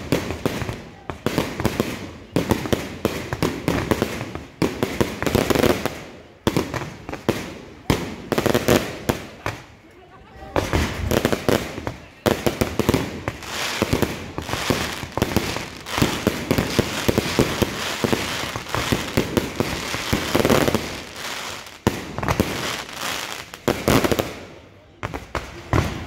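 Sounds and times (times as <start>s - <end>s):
fireworks popping and crackling: 0.0s - 26.0s.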